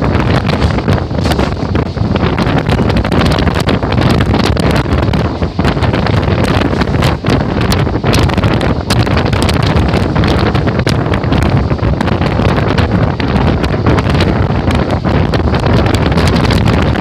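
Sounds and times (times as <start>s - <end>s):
train rumbling on rails: 0.0s - 17.0s
wind buffeting microphone: 0.0s - 17.0s.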